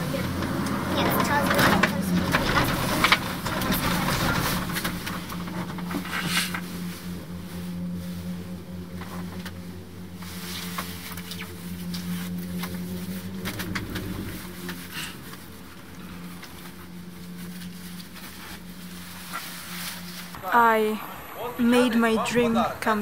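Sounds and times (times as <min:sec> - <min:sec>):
cable car mechanical hum: 0:00.0 - 0:23.0.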